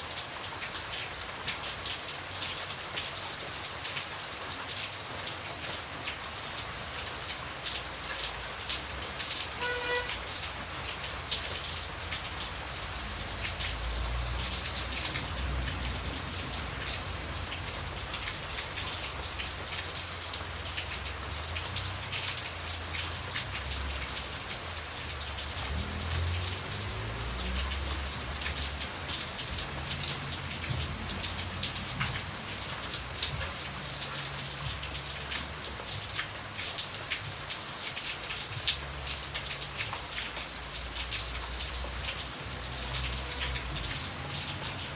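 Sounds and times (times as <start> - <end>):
light rain falling: 0.0 - 44.9.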